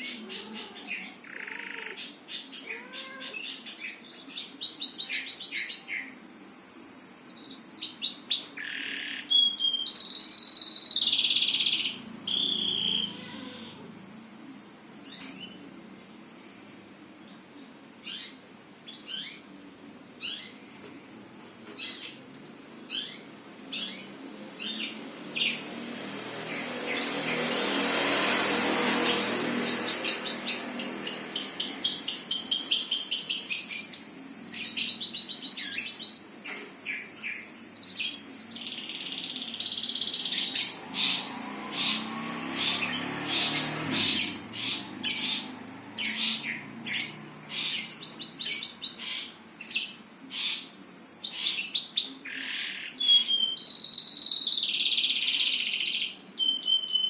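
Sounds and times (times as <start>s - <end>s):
songbird chirping and trilling: 0.0s - 14.1s, 14.8s - 16.2s, 17.2s - 19.6s, 20.2s - 20.6s, 21.6s - 57.0s.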